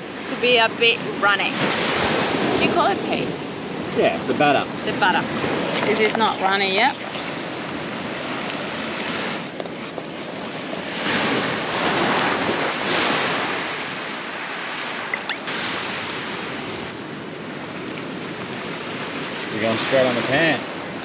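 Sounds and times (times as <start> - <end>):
surf washing onto beach: 0.0 - 21.0.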